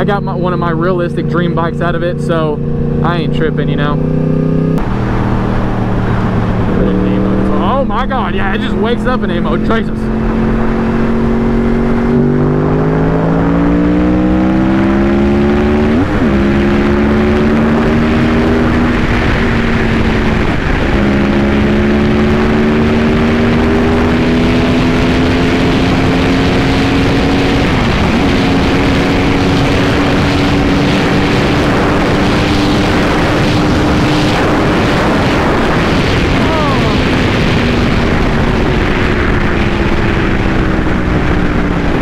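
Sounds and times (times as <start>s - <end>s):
motorcycle engine accelerating: 0.0s - 42.0s
wind noise: 3.8s - 42.0s.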